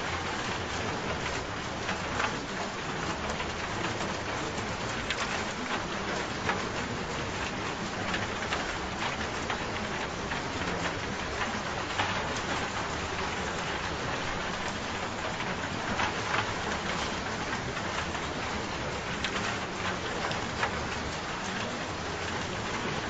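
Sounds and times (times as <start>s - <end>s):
raindrops pattering: 0.0s - 23.0s.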